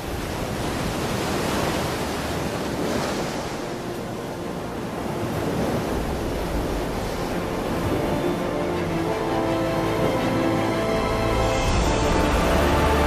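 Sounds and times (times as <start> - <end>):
waves crashing: 0.0 - 13.0
wind: 0.0 - 13.0.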